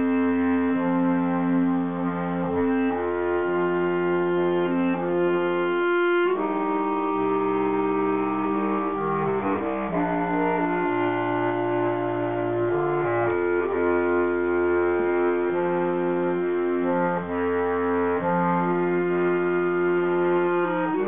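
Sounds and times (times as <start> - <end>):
bass clarinet quartet chords: 0.0 - 21.0.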